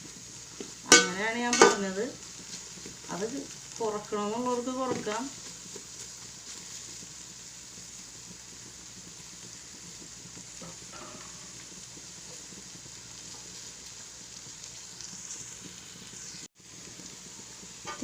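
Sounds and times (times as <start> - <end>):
vegetables sizzling in a pan: 0.0 - 18.0.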